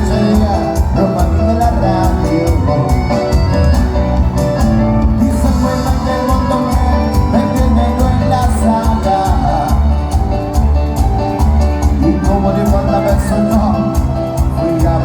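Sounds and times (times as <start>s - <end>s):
live band playing latin dance music: 0.0s - 15.0s.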